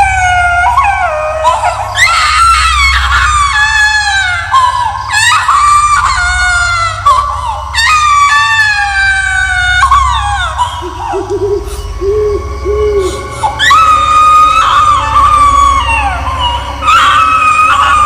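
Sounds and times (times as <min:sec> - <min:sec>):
high-pitched baby-like wails: 0:00.0 - 0:18.0
steady low hum: 0:00.0 - 0:18.0.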